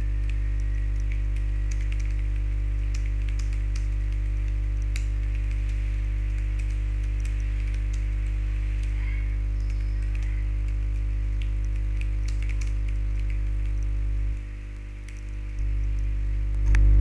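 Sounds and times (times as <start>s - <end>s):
steady low hum: 0.0s - 17.0s
keyboard keys clicking: 0.2s - 8.9s, 9.6s - 16.1s.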